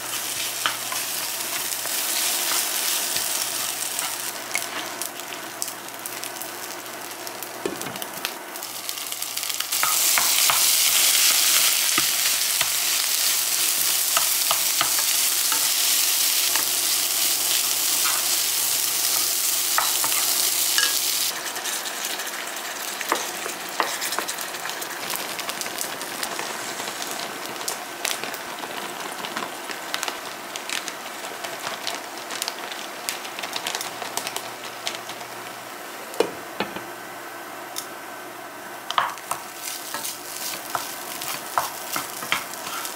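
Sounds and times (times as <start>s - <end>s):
food sizzling in frying pans: 0.0s - 42.9s.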